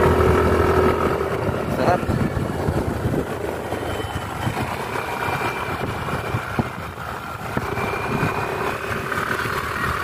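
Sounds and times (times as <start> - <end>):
motorcycle engine running: 0.0 - 10.0
wind rumbling on microphone: 0.0 - 10.0.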